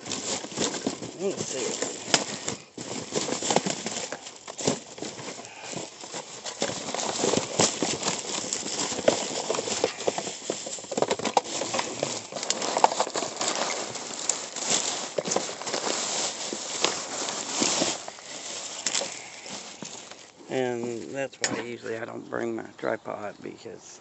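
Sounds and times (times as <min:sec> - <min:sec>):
plastic bags crinkling and rustling: 0:00.0 - 0:22.1.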